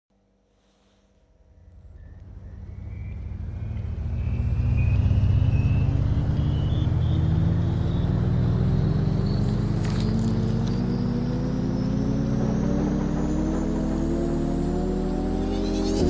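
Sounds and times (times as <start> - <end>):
motor drone rising in pitch: 2.0 - 16.0.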